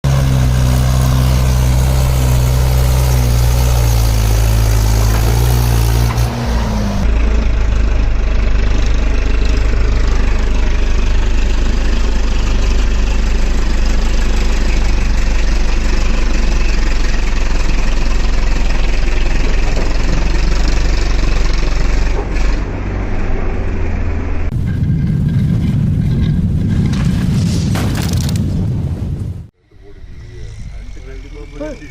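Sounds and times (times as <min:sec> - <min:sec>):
tractor diesel engine running: 0:00.0 - 0:27.2, 0:29.5 - 0:31.9.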